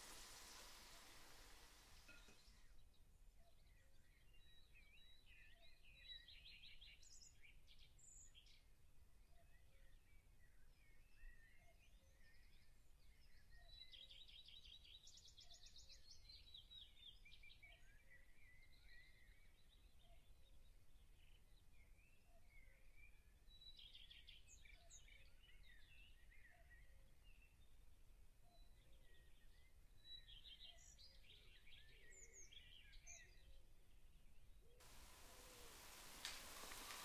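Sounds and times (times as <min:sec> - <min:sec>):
faint birdsong with trills: 0:00.0 - 0:37.0.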